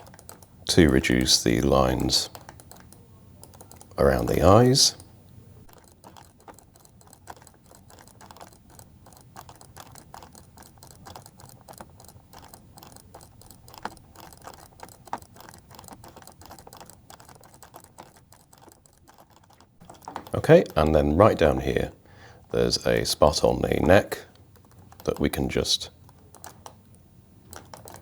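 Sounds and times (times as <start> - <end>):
computer mouse and keyboard clicking: 0.0 - 28.0.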